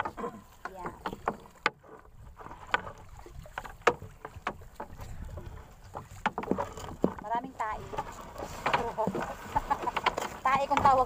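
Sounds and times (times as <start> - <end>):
knocks and taps against hull: 0.0 - 11.0
wind and water rushing: 0.0 - 11.0.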